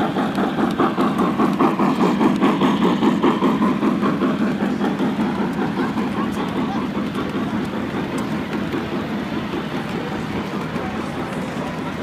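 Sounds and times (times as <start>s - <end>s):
model train rhythmic clatter: 0.0s - 12.0s.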